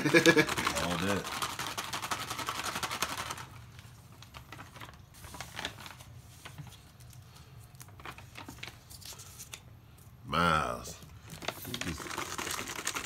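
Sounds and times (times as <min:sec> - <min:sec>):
paper bag rustling and crinkling: 0:00.1 - 0:09.6, 0:11.2 - 0:13.0.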